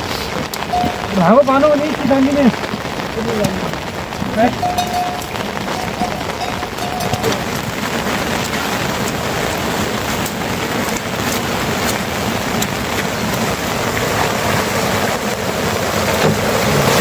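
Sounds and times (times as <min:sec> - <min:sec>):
sharp hits of raindrops: 0:00.0 - 0:17.0
steady rain falling: 0:00.0 - 0:17.0.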